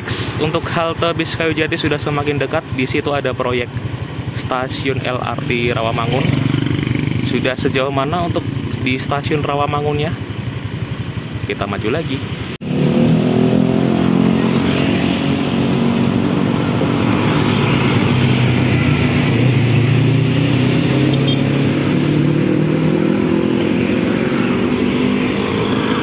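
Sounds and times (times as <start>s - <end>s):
road traffic: 0.0s - 26.0s
motorcycle engine running: 0.1s - 26.0s.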